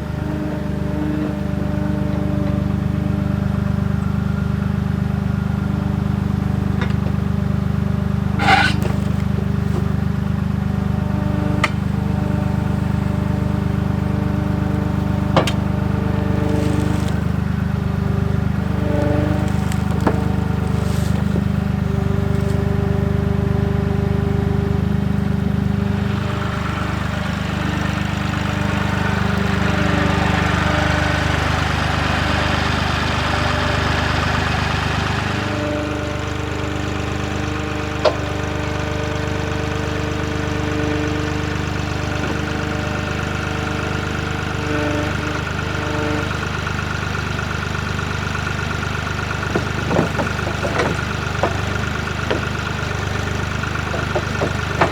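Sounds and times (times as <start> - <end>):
loader engine running: 0.0 - 54.9.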